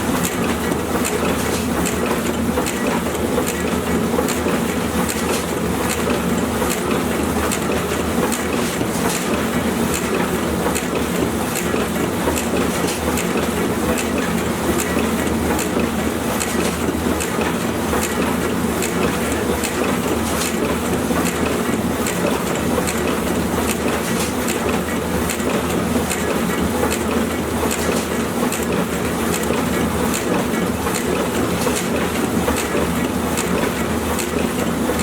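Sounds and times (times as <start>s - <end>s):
printing press running: 0.0s - 35.0s
regular mechanical clicking: 0.2s - 35.0s.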